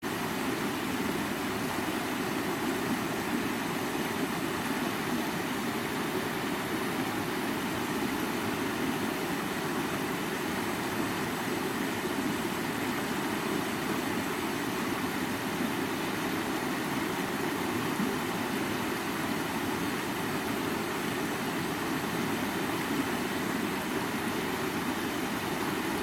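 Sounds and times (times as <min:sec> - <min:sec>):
river water rushing: 0:00.1 - 0:26.0.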